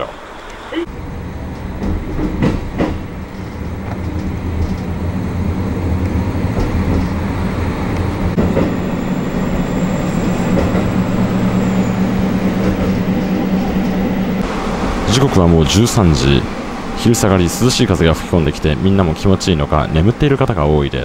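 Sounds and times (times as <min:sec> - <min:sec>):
train track and wind noise: 0:00.0 - 0:21.0.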